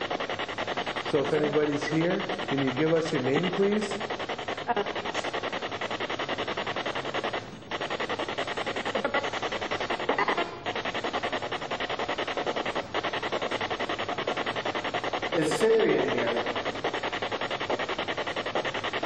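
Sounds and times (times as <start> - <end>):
fluttering static hiss: 0.0 - 19.0.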